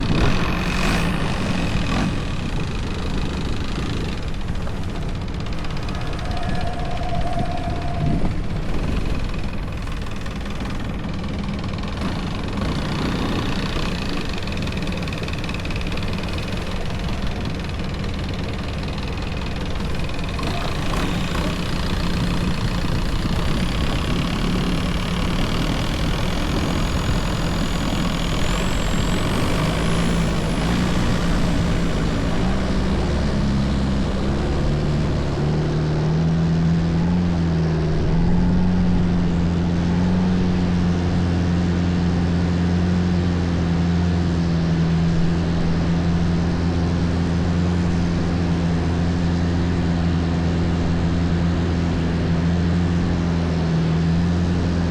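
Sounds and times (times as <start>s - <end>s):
longtail boat engine running: 0.0s - 54.9s.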